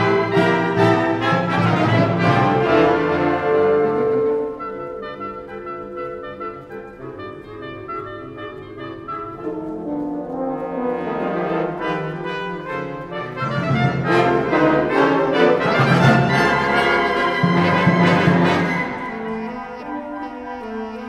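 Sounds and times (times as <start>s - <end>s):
wind band playing: 0.0s - 21.0s.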